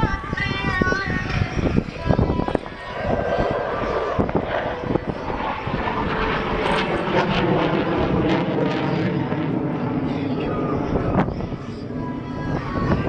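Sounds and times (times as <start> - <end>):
fighter jet engines roaring: 0.0 - 13.0.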